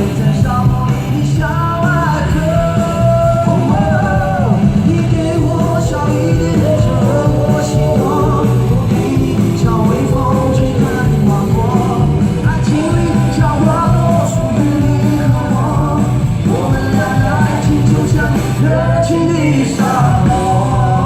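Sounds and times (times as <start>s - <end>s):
live rock song with vocals: 0.0s - 21.0s.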